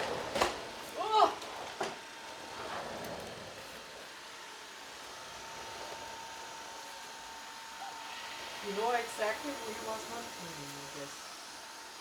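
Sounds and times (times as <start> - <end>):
robot vacuum running: 2.3 - 12.0.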